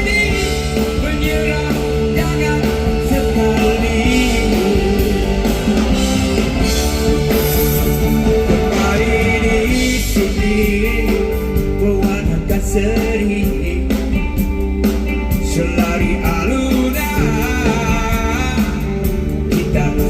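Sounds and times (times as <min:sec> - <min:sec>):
person singing: 0:00.0 - 0:20.0
rock band with guitar: 0:00.0 - 0:20.0.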